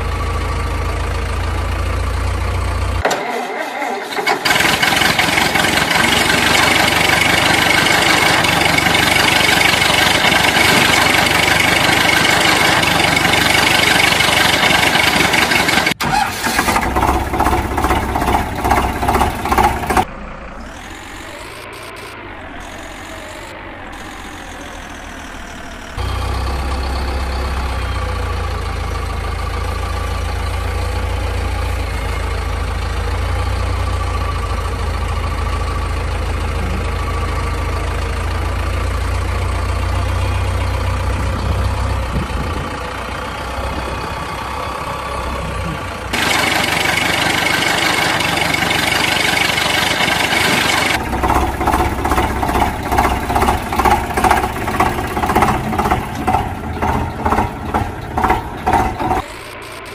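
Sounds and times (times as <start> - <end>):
low engine hum: 0.0 - 3.0, 4.5 - 59.9
engine beating in pulses: 0.0 - 59.9
harsh noisy engine: 0.0 - 59.9.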